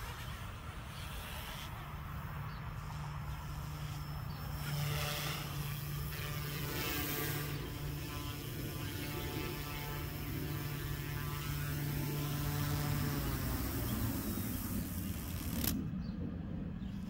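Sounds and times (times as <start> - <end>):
rc helicopter rotor humming: 0.0 - 17.0.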